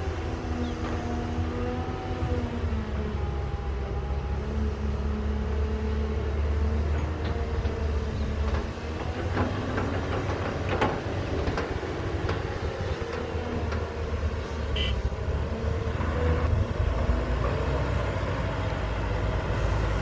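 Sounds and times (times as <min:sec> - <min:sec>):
excavator diesel engine rumble: 0:00.0 - 0:20.0.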